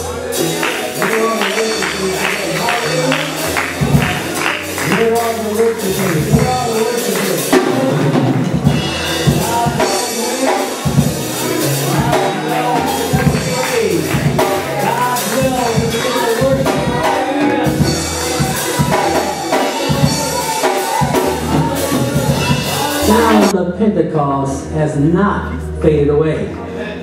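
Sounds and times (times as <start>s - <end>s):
drum kit beat: 0.0s - 23.6s
voices singing: 0.0s - 23.6s
bass line: 0.0s - 26.7s.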